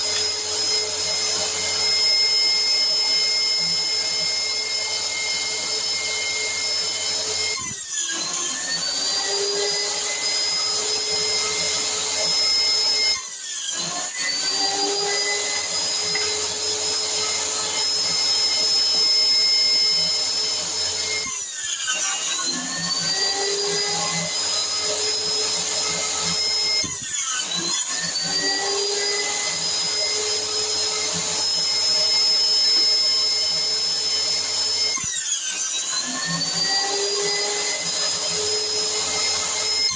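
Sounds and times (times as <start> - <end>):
saw motor running: 0.0 - 39.9.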